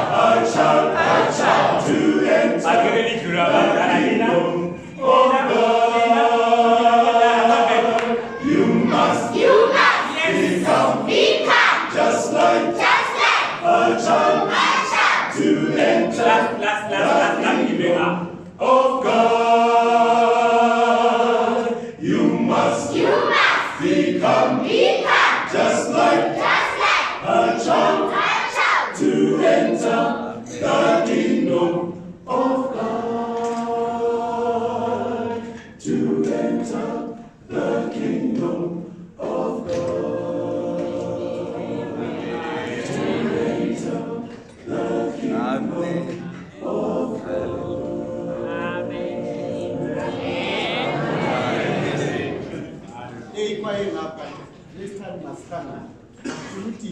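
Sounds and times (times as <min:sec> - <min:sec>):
choir singing unaccompanied: 0:00.0 - 0:53.6.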